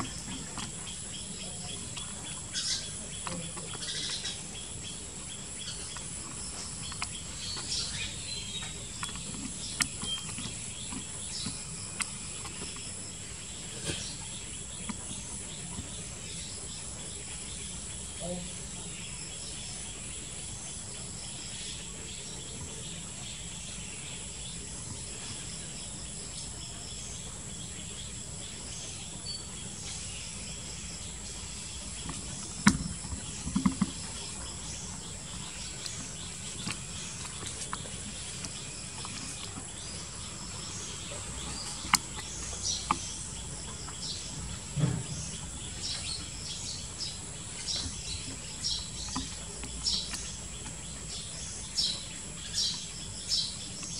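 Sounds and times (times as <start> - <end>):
bird chirps: 0.0 - 53.9
insect drone: 0.0 - 53.9.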